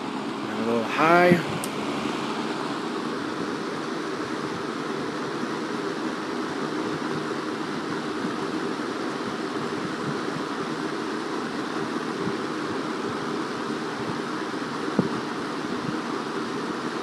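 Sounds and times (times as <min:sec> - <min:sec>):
box fan rushing air: 0:00.0 - 0:17.0.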